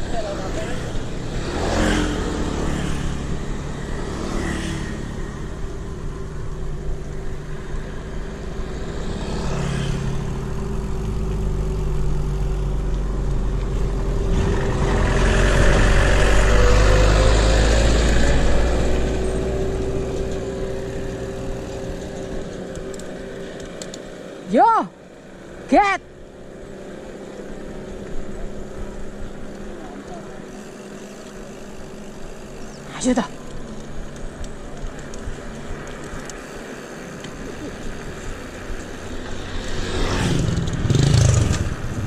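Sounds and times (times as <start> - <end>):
bike tyres rolling on asphalt: 0.0 - 42.0.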